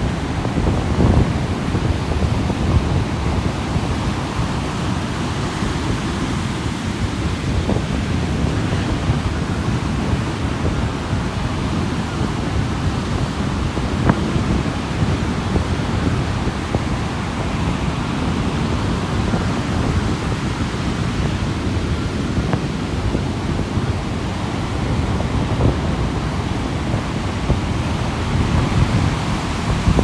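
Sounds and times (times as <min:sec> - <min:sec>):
sea surf breaking on beach: 0:00.0 - 0:30.0.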